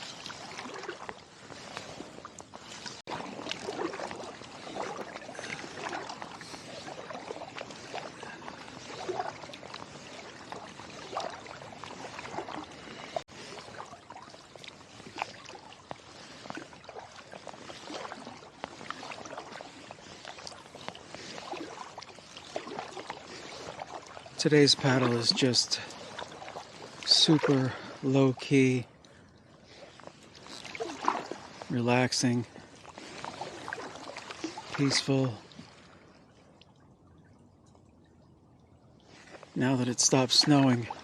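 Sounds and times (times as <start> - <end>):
kayak paddle strokes in water: 0.0 - 41.0
water splashing and dripping: 0.0 - 41.0.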